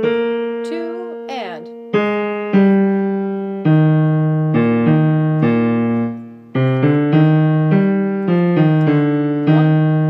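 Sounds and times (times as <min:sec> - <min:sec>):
piano two-note chords: 0:00.0 - 0:10.0.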